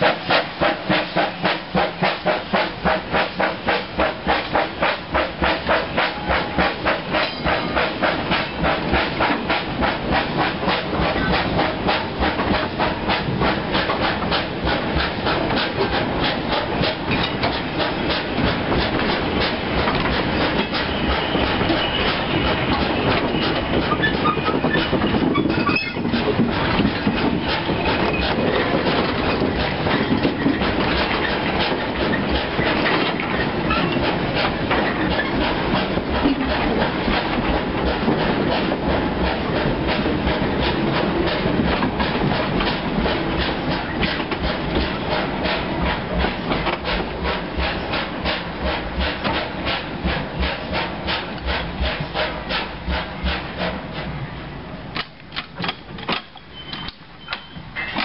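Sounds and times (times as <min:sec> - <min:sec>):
train wheels clattering over joints: 0:00.0 - 0:58.0.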